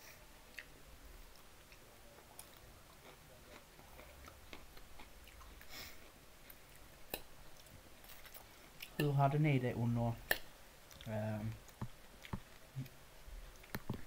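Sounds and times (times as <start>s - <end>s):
faint chewing of food: 0.0s - 9.2s, 10.3s - 14.0s.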